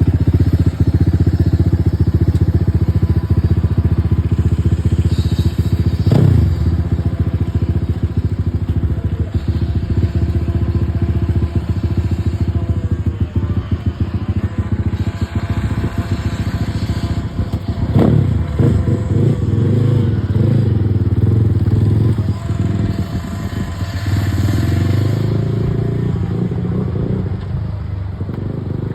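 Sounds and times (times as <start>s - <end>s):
motorcycle engine idling: 0.0s - 28.9s
motorcycle engine revving: 0.0s - 28.9s.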